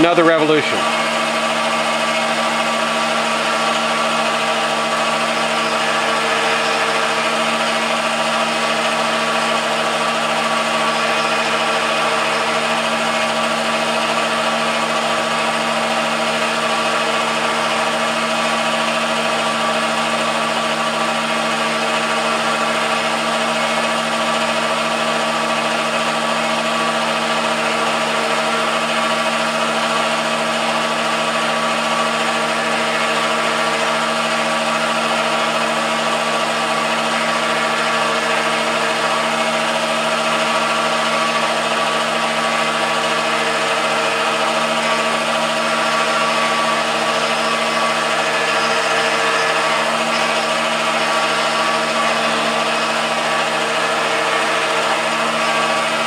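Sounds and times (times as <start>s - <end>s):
lathe motor hum and whine: 0.0s - 56.0s.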